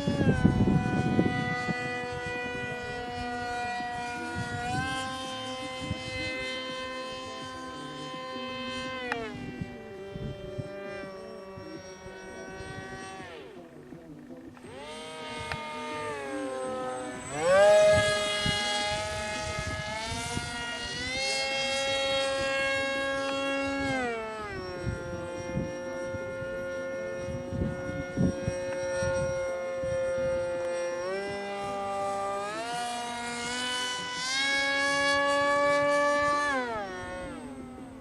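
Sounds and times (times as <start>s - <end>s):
model plane electric motor whining: 0.0s - 38.0s.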